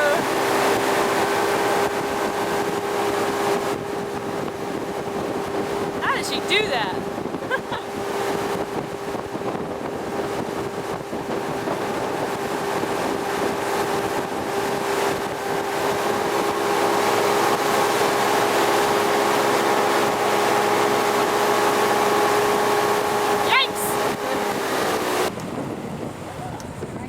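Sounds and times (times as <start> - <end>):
water rushing: 0.0 - 25.4
motorboat engine drone: 0.0 - 27.0
rushing wind: 0.0 - 27.0.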